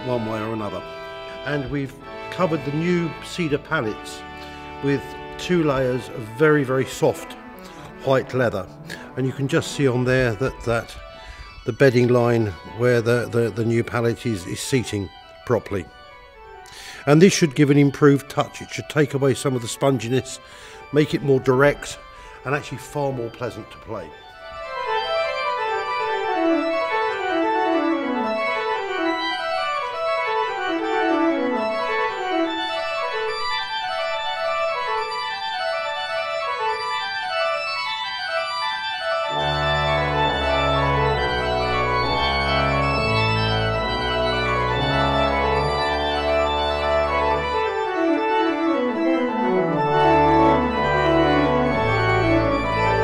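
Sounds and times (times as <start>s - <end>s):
pipe organ playing: 0.0s - 53.0s.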